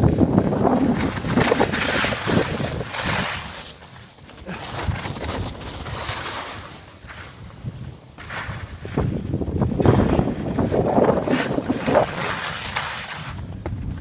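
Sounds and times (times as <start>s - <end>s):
wind on microphone: 0.0s - 3.8s, 4.4s - 14.0s
skis scraping on snow: 0.0s - 14.0s.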